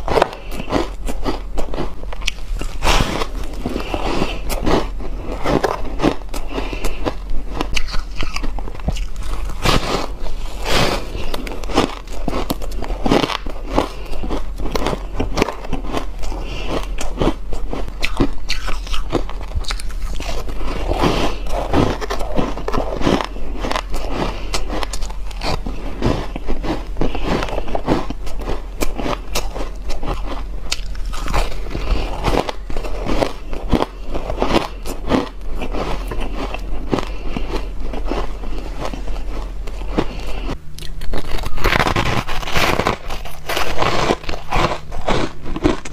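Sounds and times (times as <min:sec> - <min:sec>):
chewing crunchy ice: 0:00.0 - 0:45.9.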